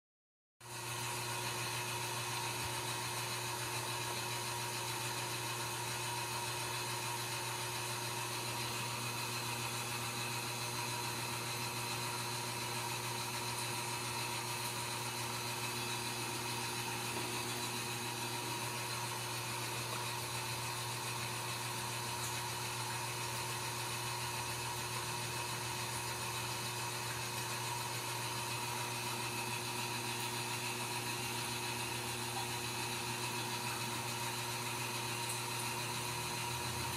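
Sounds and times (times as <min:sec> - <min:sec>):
steady machine hum: 0:00.6 - 0:36.9.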